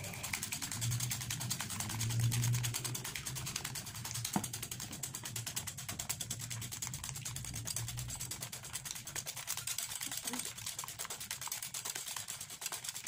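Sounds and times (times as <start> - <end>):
whisk clicking against bowl: 0.0 - 13.0.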